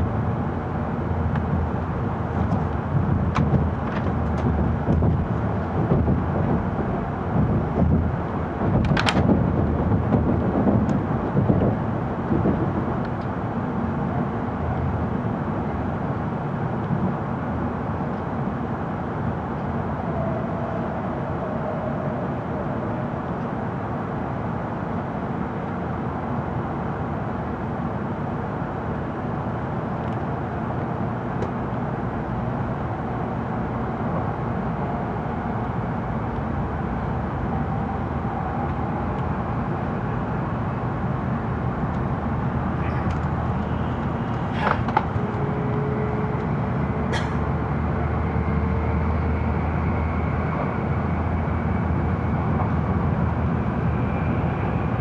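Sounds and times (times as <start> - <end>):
train cabin running noise: 0.0 - 55.0.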